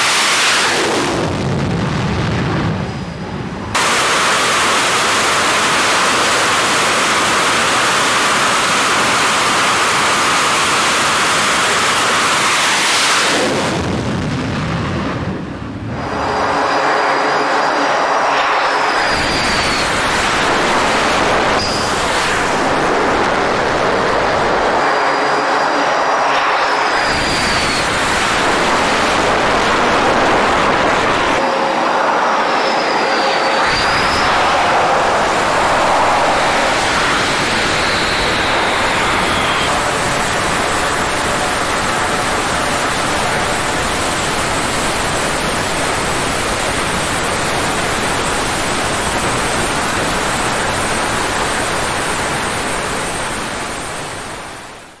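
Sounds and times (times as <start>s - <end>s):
jet engines whining: 0.0s - 55.0s
turboprop engines droning: 0.0s - 55.0s.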